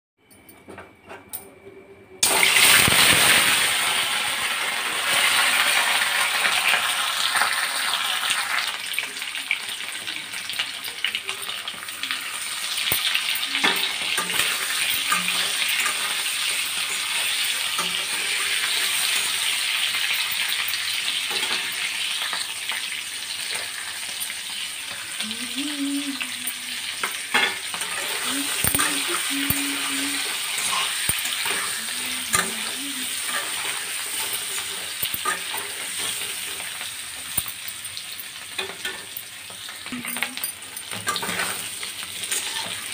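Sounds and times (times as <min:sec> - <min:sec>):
potatoes frying in hot oil: 0:02.2 - 0:42.9.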